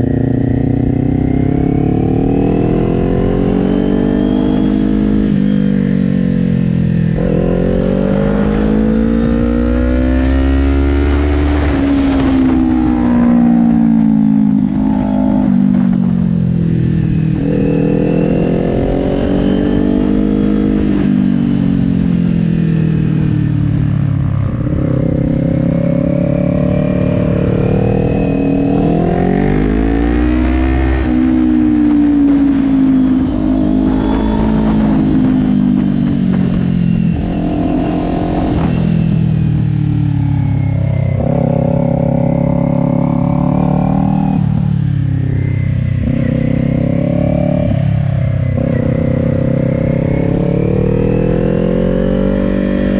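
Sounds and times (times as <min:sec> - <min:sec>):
motorcycle engine revving: 0:00.0 - 0:52.9
wind rushing over microphone: 0:00.0 - 0:52.9.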